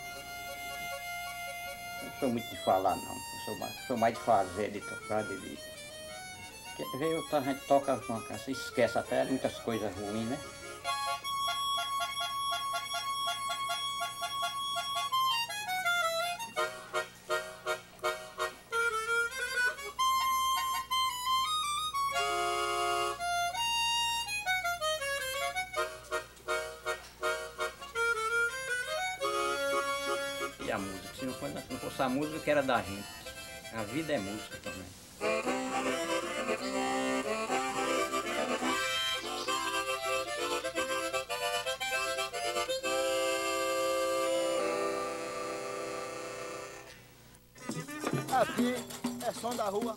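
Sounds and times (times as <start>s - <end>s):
harmonica melody: 0.0s - 49.9s.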